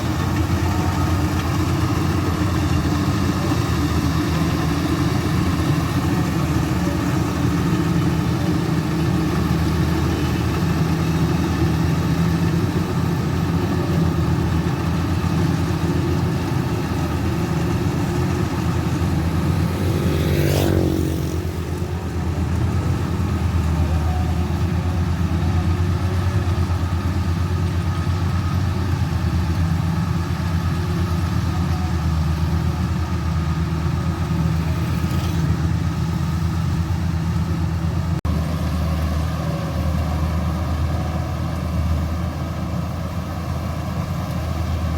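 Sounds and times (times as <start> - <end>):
diesel engine low drone: 0.0 - 44.9.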